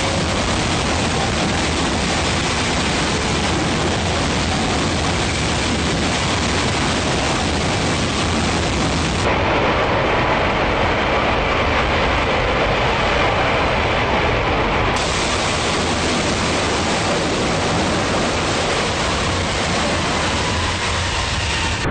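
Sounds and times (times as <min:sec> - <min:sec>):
jet engine roaring in hover: 0:00.0 - 0:21.9.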